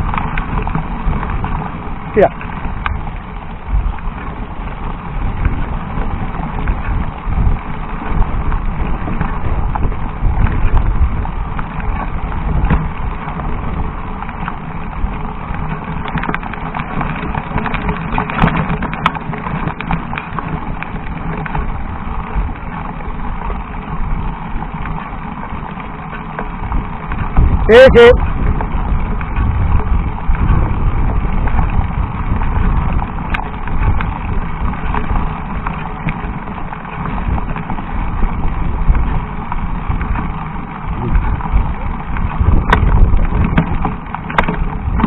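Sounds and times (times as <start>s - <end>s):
bike rattling and knocking: 0.0s - 45.0s
tyres crunching over stones: 0.0s - 45.0s
wind rumble on microphone: 0.0s - 45.0s.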